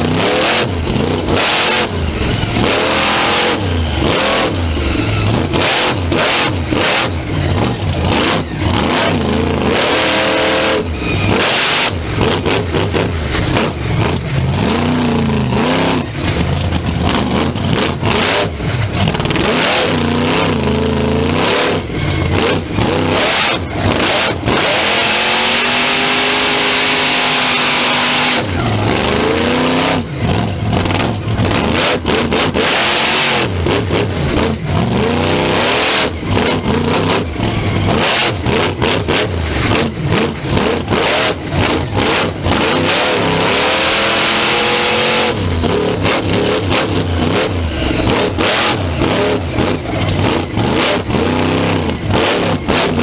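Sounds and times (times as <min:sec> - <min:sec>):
engine crackles and bangs: 0:00.0 - 0:53.0
monster truck engine revving: 0:00.0 - 0:53.0.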